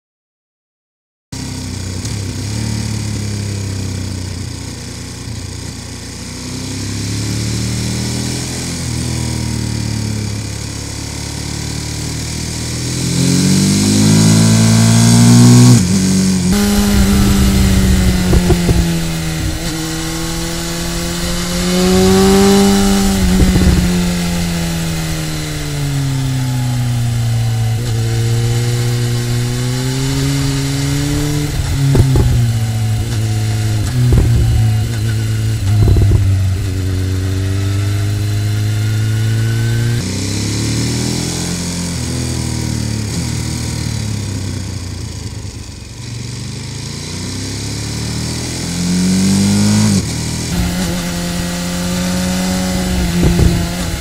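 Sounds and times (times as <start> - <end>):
four-cylinder motorcycle engine revving: 1.4 - 54.0
twin-cylinder motorcycle engine revving: 1.4 - 54.0.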